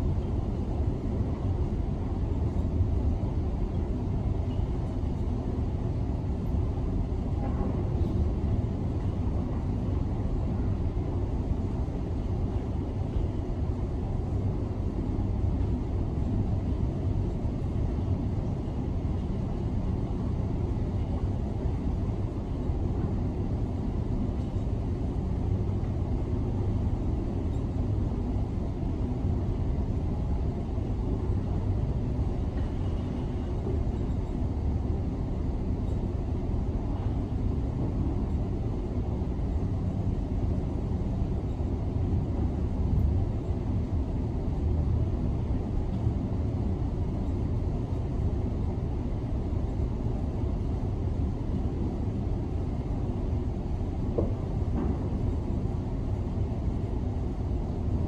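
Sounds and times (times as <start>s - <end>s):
muffled street traffic: 0.0s - 58.0s.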